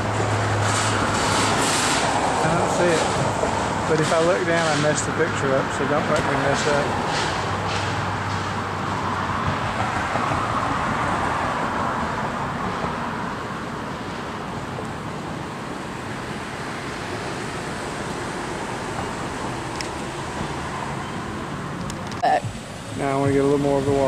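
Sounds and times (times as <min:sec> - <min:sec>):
hum of traffic: 0:00.0 - 0:24.0
vehicle passing: 0:00.0 - 0:24.0.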